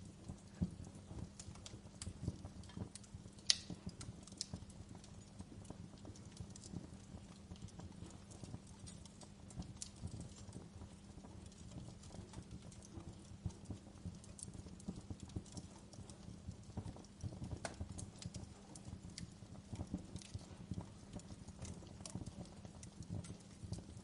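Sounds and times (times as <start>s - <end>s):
low rumble of burning fire: 0.0s - 24.0s
wood fire crackling and popping: 0.0s - 24.0s.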